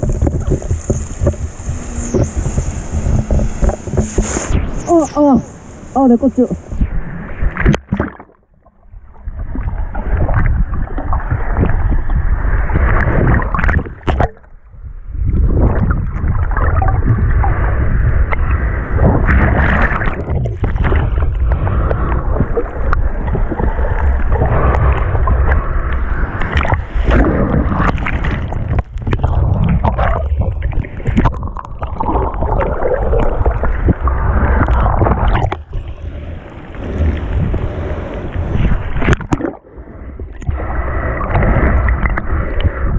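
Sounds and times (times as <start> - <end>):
wind buffeting microphone: 0.0 - 7.8, 9.3 - 42.9
sea water sloshing: 0.0 - 14.5, 15.6 - 42.9.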